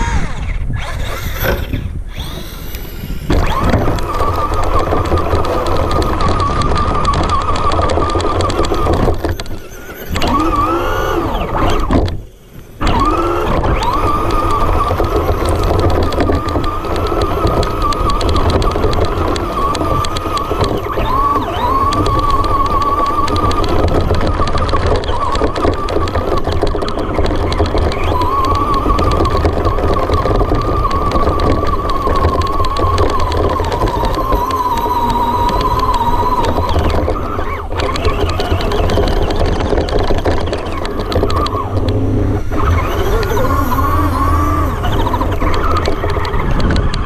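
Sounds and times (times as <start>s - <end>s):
rapid mechanical clicking: 0.0s - 47.0s
rc truck electric motor whining: 0.0s - 47.0s.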